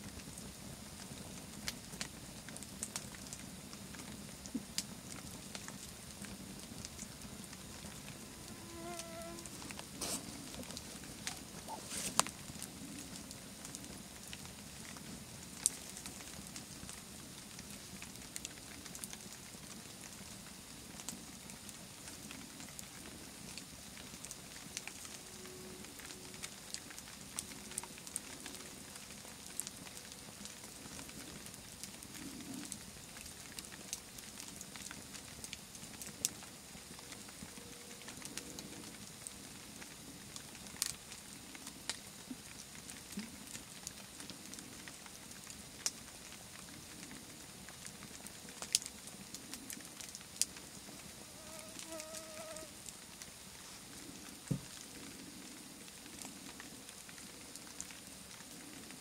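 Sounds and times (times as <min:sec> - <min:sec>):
campfire crackling and popping: 0:00.0 - 0:59.0
soft fire hiss: 0:00.0 - 0:59.0.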